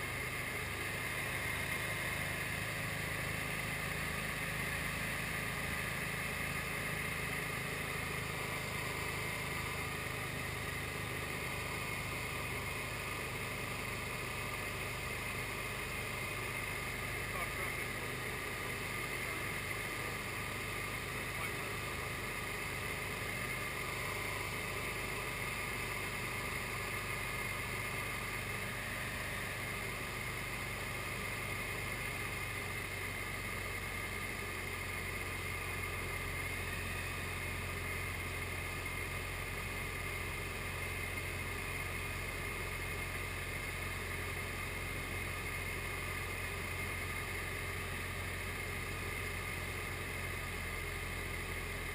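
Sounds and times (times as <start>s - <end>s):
light aircraft engine droning: 0.0s - 51.9s.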